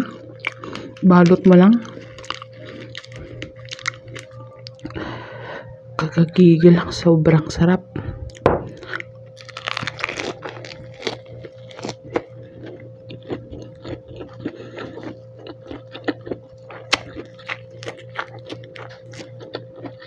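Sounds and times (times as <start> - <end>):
lettuce crunching while chewing: 0.0 - 5.2, 8.3 - 20.0
steady low hum: 0.0 - 20.0.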